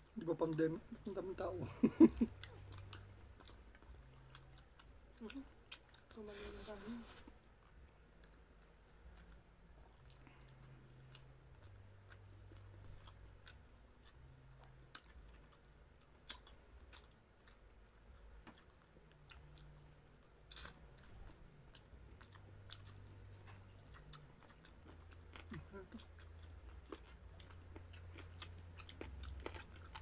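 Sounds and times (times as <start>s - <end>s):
person chewing food: 0.0s - 6.2s, 7.1s - 30.0s.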